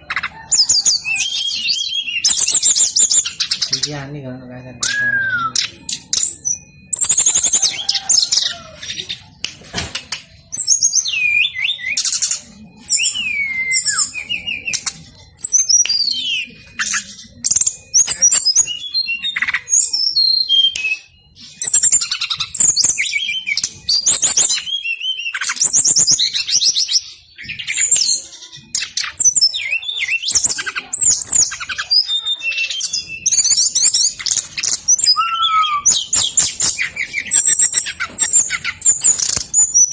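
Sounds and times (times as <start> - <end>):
bird singing whistled trills: 0.0 - 9.5, 10.4 - 39.9.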